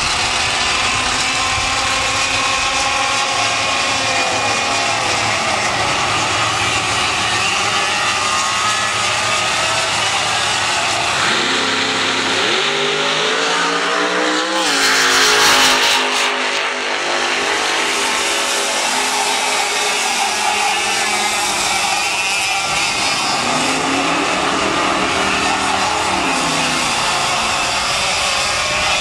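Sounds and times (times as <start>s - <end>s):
racing kart engines: 0.0s - 29.0s.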